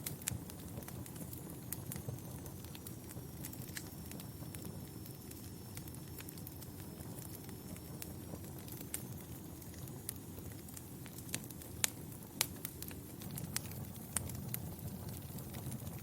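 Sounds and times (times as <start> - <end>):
fire crackling: 0.0 - 16.0
fire pops: 0.0 - 16.0.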